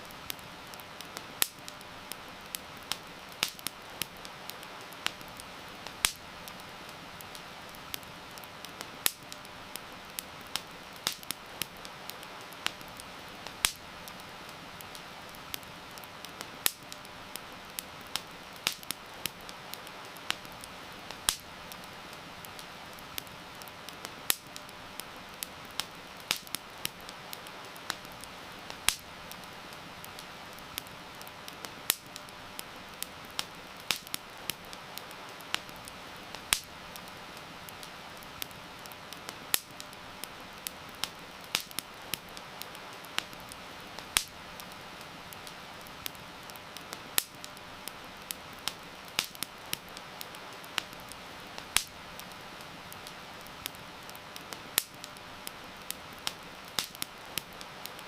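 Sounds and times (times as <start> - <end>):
heavy rain hiss: 0.0 - 58.0
wood fire crackling and popping: 0.0 - 58.0.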